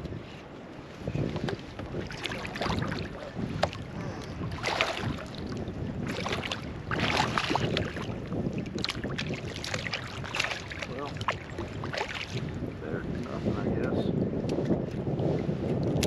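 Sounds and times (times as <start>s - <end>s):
water splashing around kayak: 0.0s - 16.0s.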